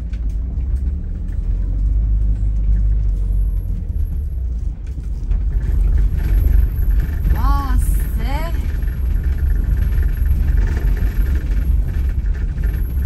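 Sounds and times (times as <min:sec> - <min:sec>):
vehicle engine and tyres rumbling: 0:00.0 - 0:13.0.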